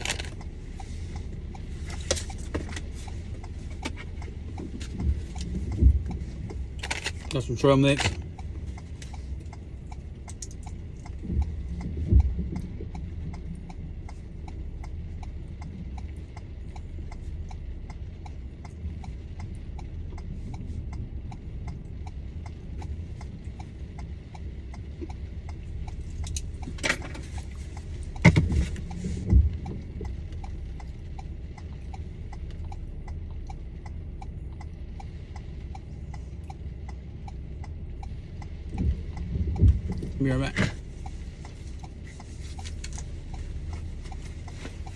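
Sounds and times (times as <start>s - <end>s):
car flasher relay ticking: 0.0s - 44.9s
low hum of car cabin: 0.0s - 44.9s.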